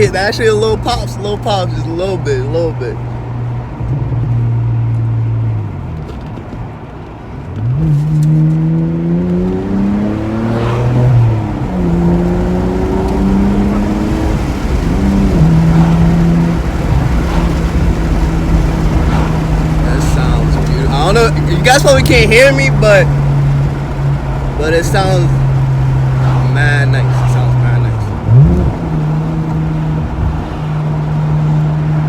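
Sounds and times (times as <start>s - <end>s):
car exhaust accelerating through gears: 0.0s - 32.0s.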